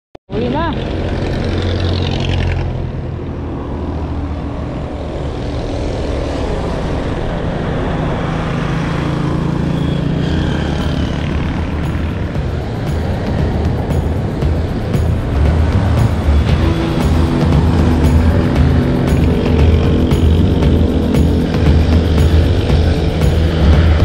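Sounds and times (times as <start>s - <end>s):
road and traffic noise: 0.3s - 24.0s.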